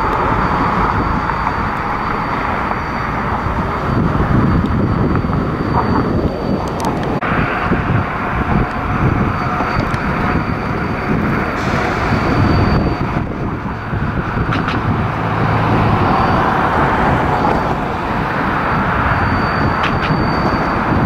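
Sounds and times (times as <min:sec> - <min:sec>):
city traffic noise: 0:00.0 - 0:21.0
diesel locomotive rumble: 0:00.0 - 0:21.0.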